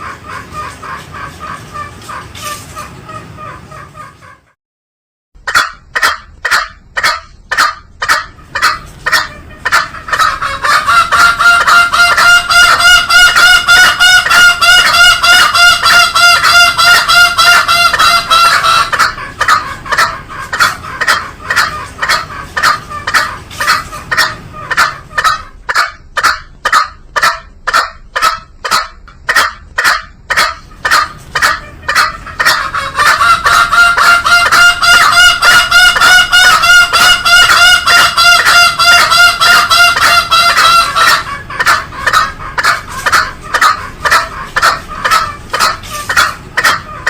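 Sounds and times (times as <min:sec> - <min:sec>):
junglefowl calling: 0:00.0 - 0:04.6, 0:05.4 - 0:47.0.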